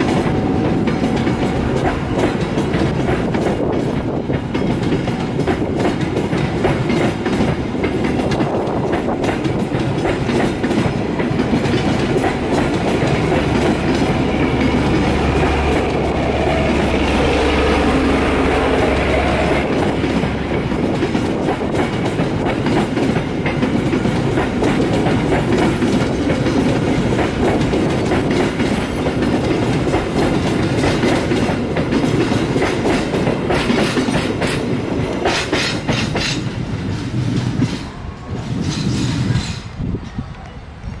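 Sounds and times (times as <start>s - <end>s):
clickety-clack over rail joints: 0.0s - 41.0s
train wheels rumbling: 0.0s - 41.0s.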